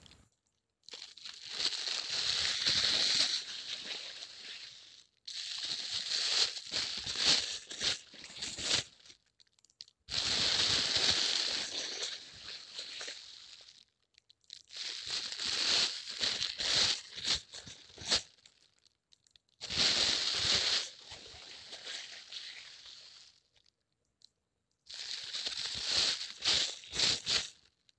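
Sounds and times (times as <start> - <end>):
plastic crumpling by hand: 0.8 - 24.3, 24.9 - 27.9.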